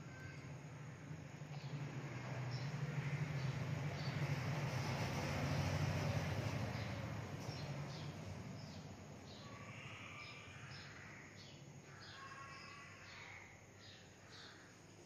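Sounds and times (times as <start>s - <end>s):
faint bird chirping: 0.0s - 5.0s, 6.3s - 15.0s.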